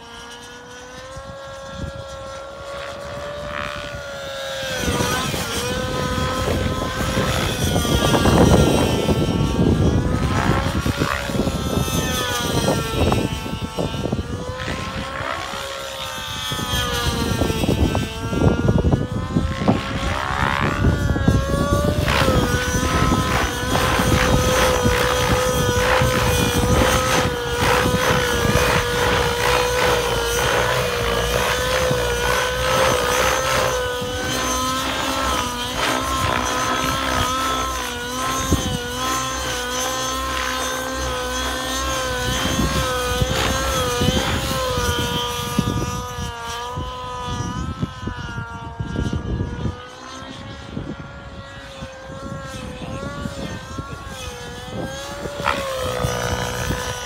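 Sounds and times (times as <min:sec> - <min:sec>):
model helicopter engine and rotors: 0:00.0 - 0:57.0.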